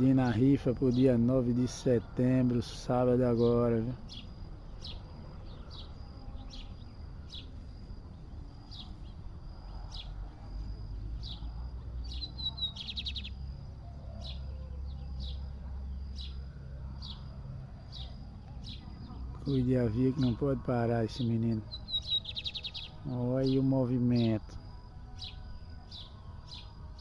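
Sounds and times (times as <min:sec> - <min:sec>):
bird trill: 0:00.0 - 0:27.0
songbird chirping: 0:00.0 - 0:27.0.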